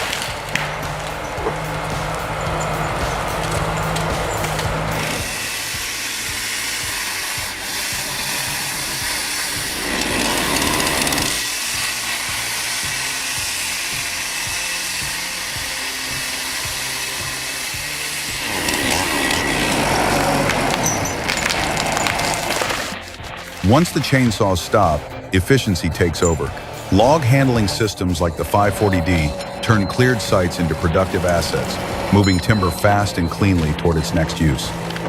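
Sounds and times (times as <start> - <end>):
background music: 0.0 - 35.0
chainsaw cutting wood: 0.0 - 35.0.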